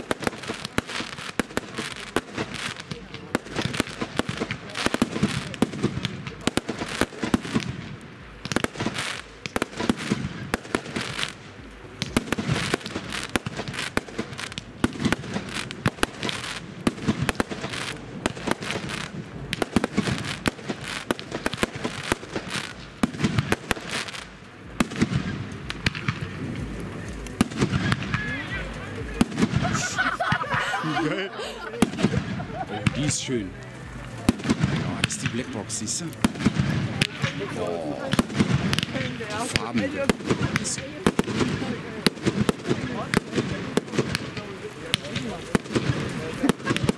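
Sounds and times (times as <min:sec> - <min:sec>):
fireworks bangs and pops: 0:00.0 - 0:46.9.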